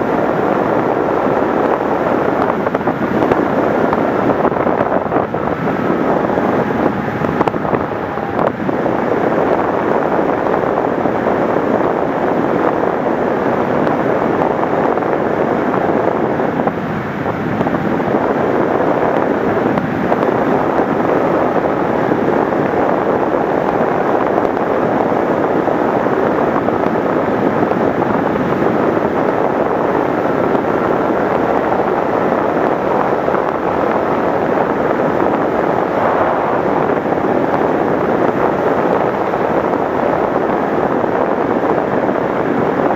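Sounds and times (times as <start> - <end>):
faint thin whine: 0.0 - 42.9
wind rushing across microphone: 0.0 - 42.9.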